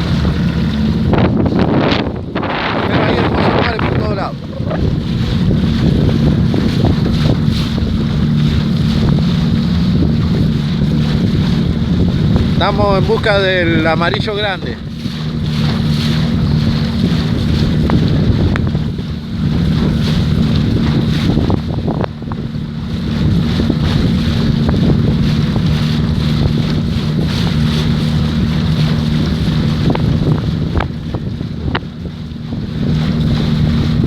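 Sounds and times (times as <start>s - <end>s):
boat motor droning: 0.0s - 34.0s
water rushing past: 0.0s - 34.0s
wind buffeting microphone: 0.0s - 34.0s.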